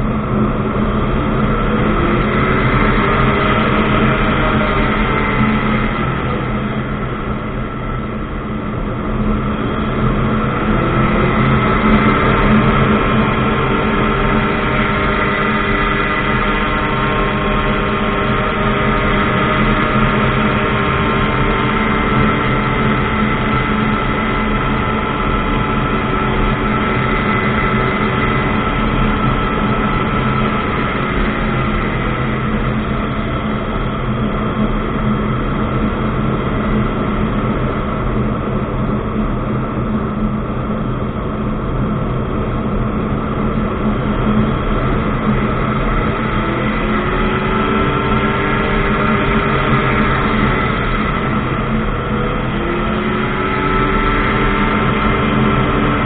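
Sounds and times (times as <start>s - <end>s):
ultralight aircraft engine and propeller: 0.0s - 56.0s.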